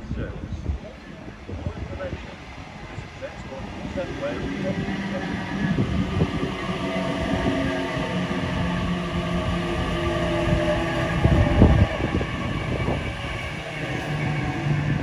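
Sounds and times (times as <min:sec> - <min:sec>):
low train rumble: 0:00.0 - 0:15.0
electric train motors humming: 0:00.6 - 0:15.0.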